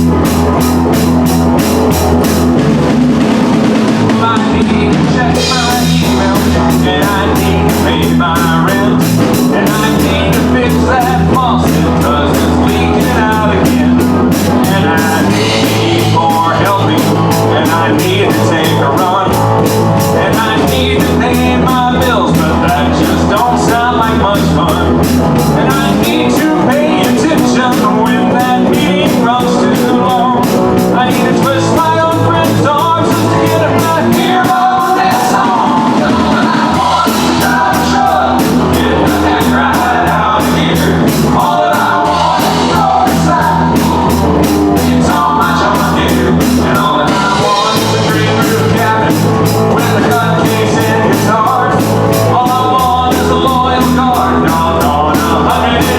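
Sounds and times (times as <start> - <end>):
bass: 0.0 - 55.9
country-rock band playing: 0.0 - 55.9
drum beat: 0.0 - 55.9
electric guitar: 0.0 - 55.9.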